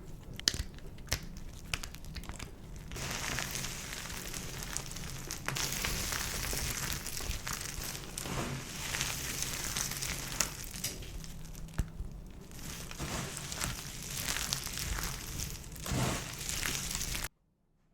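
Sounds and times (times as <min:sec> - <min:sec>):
dry soap crunching: 0:00.0 - 0:17.3.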